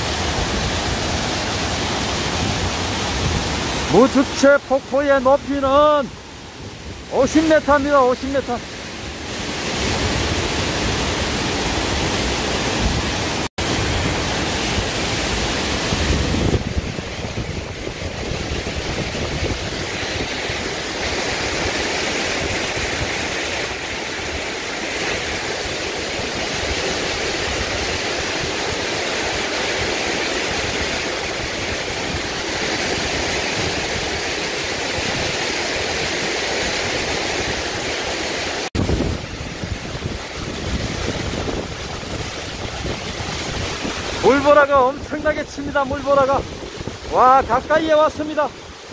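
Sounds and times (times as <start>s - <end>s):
deep rumble of waterfall: 0.0s - 48.9s
waterfall rushing: 0.0s - 48.9s.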